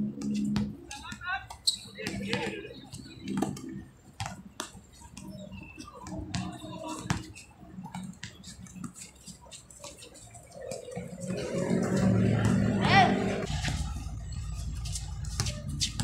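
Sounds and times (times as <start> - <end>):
basketball bouncing: 0.1 - 9.0, 11.0 - 16.0
faint voices of players: 0.3 - 3.9, 4.9 - 16.0.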